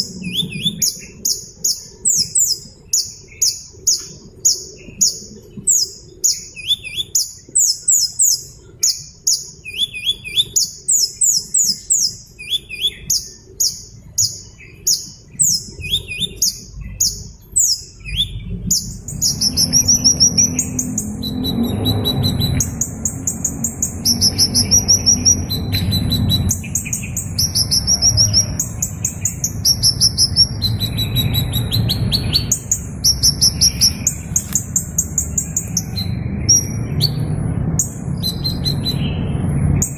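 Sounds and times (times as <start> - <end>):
small bird chirping and trilling: 0.0 - 39.9.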